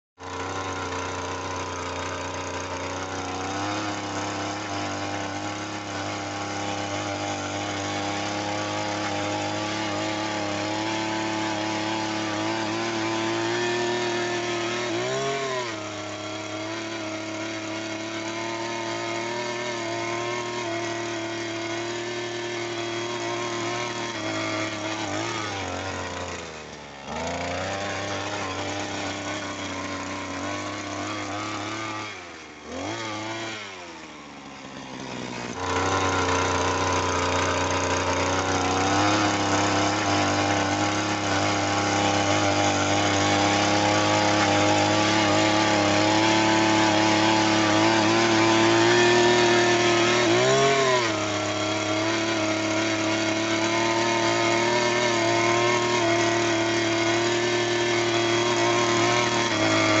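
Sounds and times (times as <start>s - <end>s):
auger boring into soil: 0.2s - 60.0s
earth auger petrol engine running: 0.2s - 60.0s.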